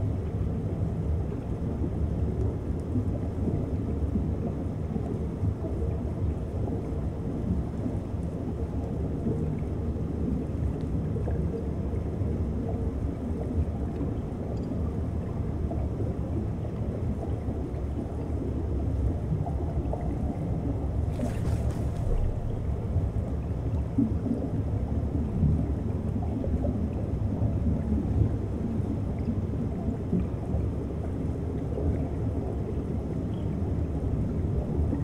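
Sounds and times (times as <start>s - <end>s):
underwater rumble of seawater: 0.0s - 35.0s.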